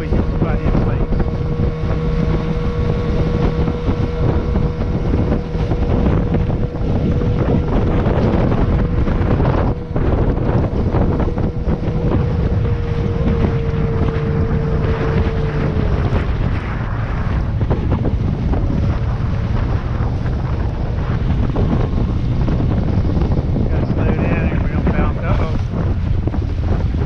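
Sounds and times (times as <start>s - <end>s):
outboard motor running: 0.0s - 27.0s
wind buffeting microphone: 0.0s - 27.0s.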